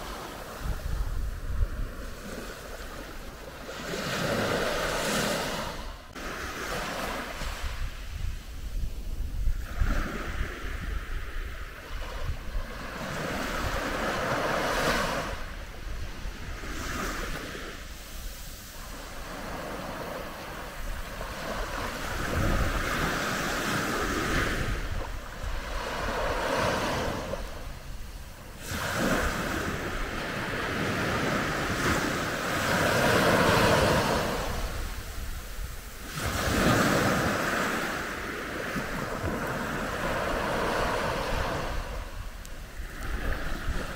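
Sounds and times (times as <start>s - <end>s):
sea waves washing onto beach: 0.0s - 43.9s.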